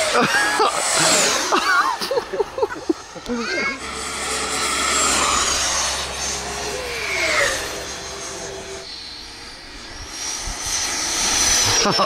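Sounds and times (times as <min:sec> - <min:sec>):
jet ducted fan whining: 0:00.0 - 0:12.0.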